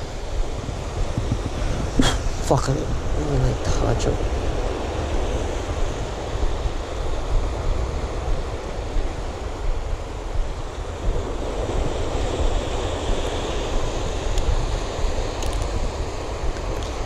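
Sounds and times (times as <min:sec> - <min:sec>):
ocean surf: 0:00.0 - 0:17.0
wind rushing over microphone: 0:00.0 - 0:17.0.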